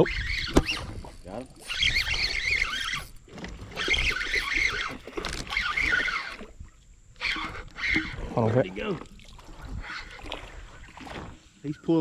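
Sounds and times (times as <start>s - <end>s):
fishing reel cranking whine: 0.0s - 10.8s.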